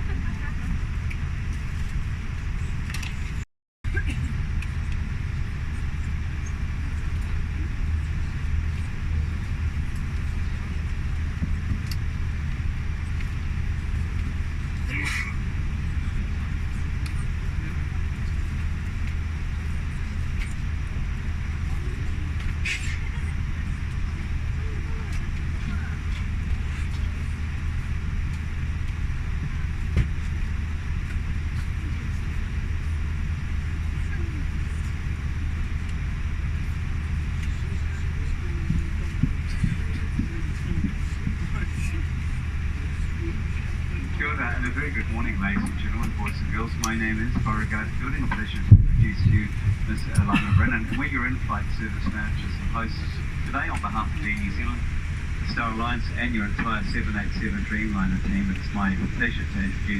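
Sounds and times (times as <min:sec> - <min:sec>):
airplane cabin hum: 0:00.0 - 0:59.9.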